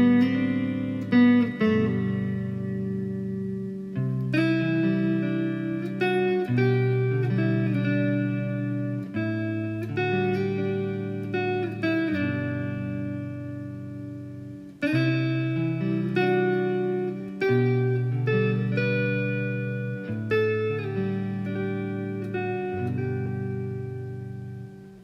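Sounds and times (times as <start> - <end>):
plucked guitar notes: 0.0 - 25.0.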